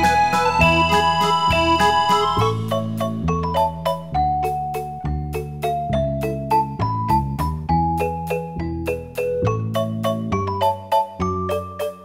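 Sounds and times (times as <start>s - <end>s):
light bouncy background music: 0.0s - 12.0s.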